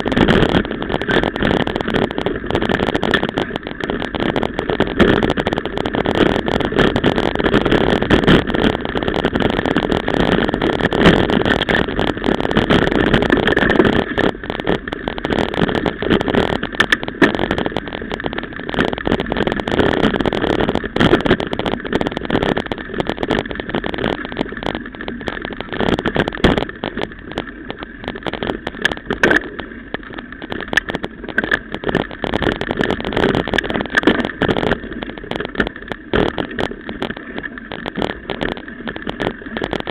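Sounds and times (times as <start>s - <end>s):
tyres rumbling on dirt: 0.0s - 39.9s.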